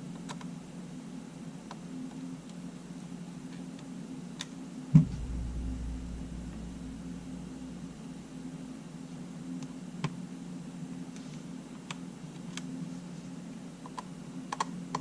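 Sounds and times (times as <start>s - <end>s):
steady low hum: 0.8s - 13.6s.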